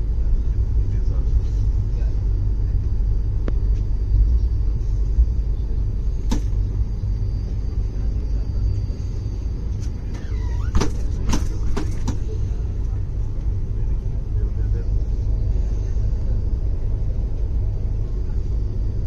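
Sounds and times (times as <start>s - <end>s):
passenger train rumbling past: 0.0s - 10.2s, 10.9s - 19.0s.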